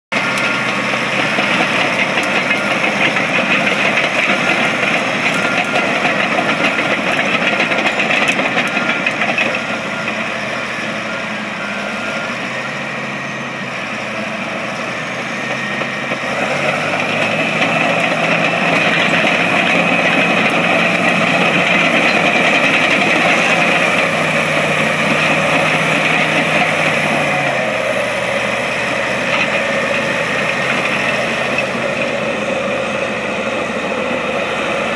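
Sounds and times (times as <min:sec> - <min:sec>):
diesel bulldozer engine running: 0:00.1 - 0:34.9.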